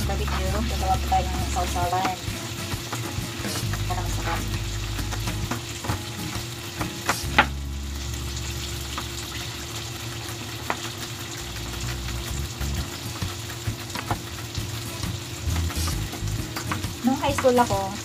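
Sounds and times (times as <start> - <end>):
meat sizzling: 0.0 - 18.0.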